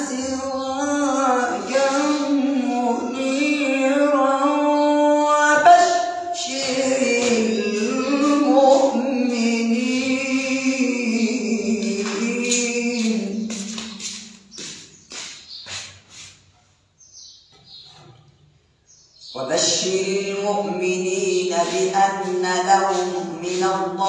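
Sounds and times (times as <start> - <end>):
man reciting melodically: 0.0 - 14.7, 19.2 - 24.0.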